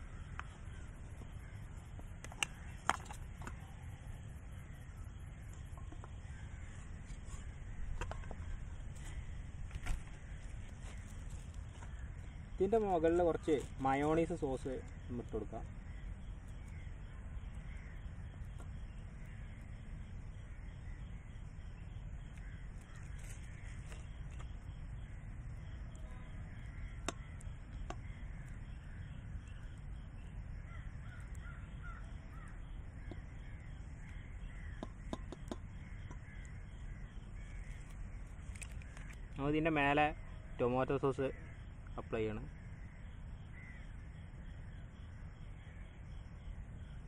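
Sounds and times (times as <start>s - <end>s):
birds calling: 0.0s - 47.0s
low outdoor rumble: 0.0s - 47.0s.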